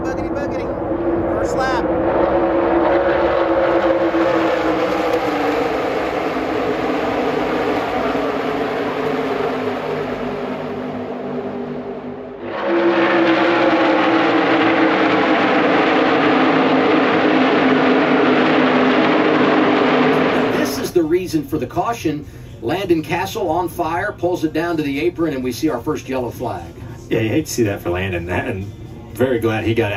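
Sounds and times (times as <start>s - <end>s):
race cars engines droning: 0.0s - 29.9s.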